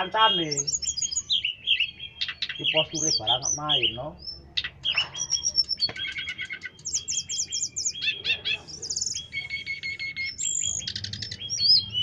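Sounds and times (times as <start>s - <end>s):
songbird chirps and trills: 0.0s - 12.0s.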